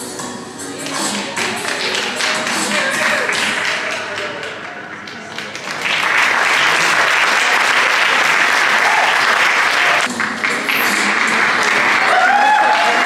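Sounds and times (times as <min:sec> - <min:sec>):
audience applauding: 0:00.9 - 0:13.0.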